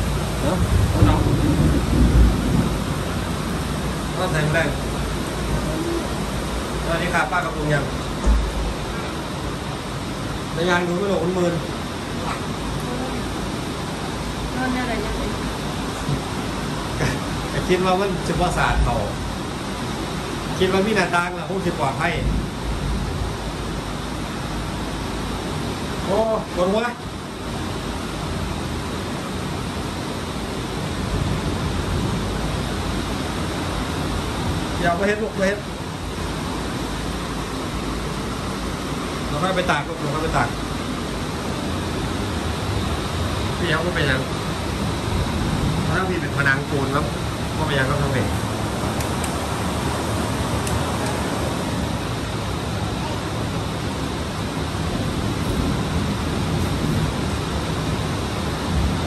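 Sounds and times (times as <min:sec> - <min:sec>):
heavy rain: 0:00.0 - 0:59.0
wind: 0:00.0 - 0:59.0.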